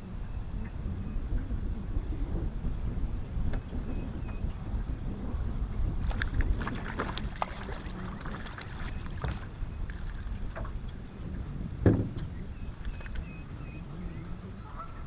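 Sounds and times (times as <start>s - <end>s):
water lapping around boat: 0.0s - 15.0s
wind rumble on microphone: 0.0s - 15.0s.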